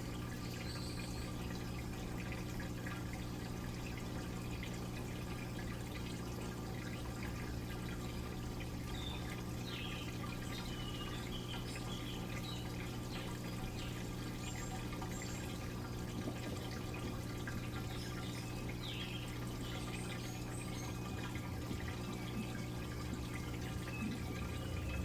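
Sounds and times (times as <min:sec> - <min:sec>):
steady low hum: 0:00.0 - 0:25.0
water splashing in washing machine: 0:00.0 - 0:25.0.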